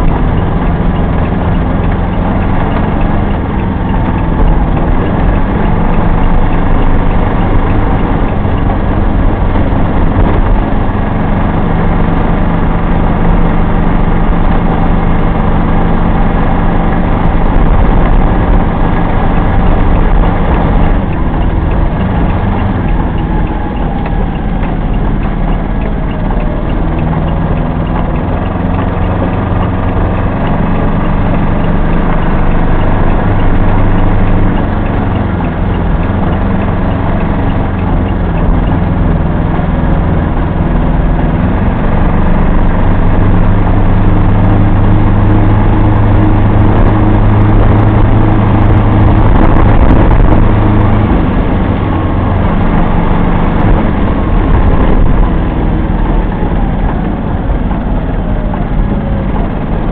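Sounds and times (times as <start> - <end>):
diesel engine running: 0.0 - 59.9
tyres on wet road: 0.0 - 59.9.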